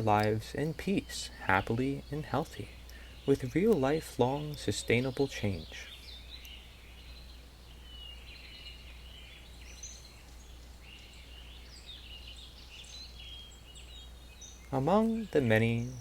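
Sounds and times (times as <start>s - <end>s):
birds chirping and singing: 0.0s - 16.0s
steady low hum: 0.0s - 16.0s.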